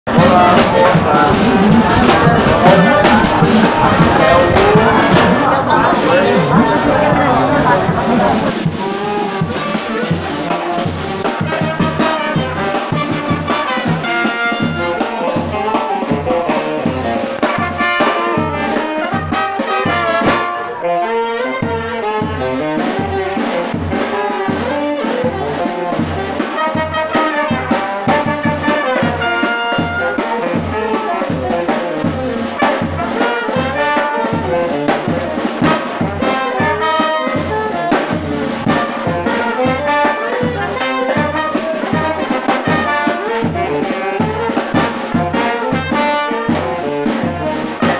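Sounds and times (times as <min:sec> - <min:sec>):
brass band playing: 0:00.0 - 0:47.9
quick steady beat: 0:00.1 - 0:20.4, 0:22.3 - 0:47.9.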